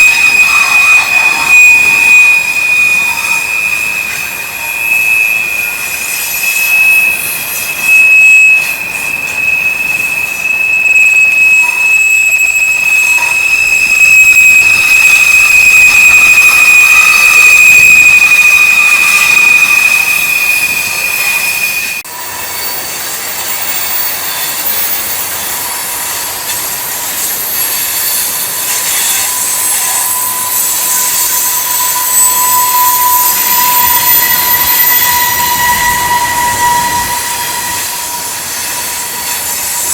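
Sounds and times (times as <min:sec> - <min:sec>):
high-pitched flange squeal: 0:00.0 - 0:39.9
lower wheel squeal: 0:00.0 - 0:39.9
train wheels grinding: 0:00.0 - 0:39.9.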